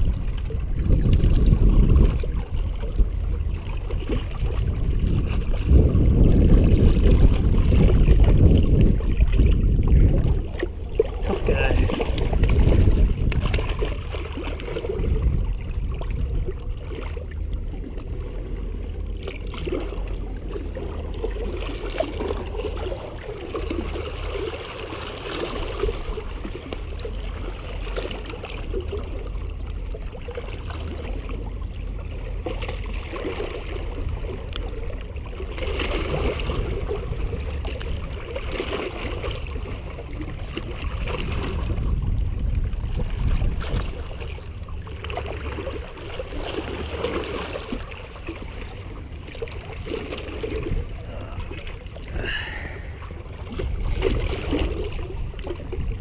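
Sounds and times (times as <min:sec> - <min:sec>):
low rumble: 0:00.0 - 0:56.0
waves lapping against rocks: 0:00.0 - 0:56.0.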